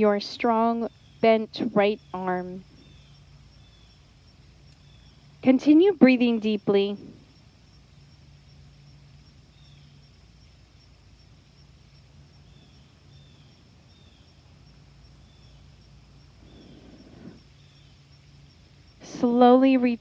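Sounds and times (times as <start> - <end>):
bird chirping: 0.0 - 10.2, 10.8 - 20.0
low steady hum: 0.0 - 20.0
soft rush of noise: 0.0 - 20.0.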